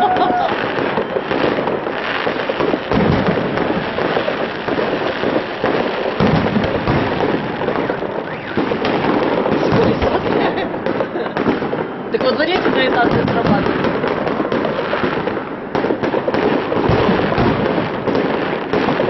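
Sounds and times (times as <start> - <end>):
fireworks bangs and crackling: 0.0 - 19.0
loud fireworks booms: 0.0 - 19.0.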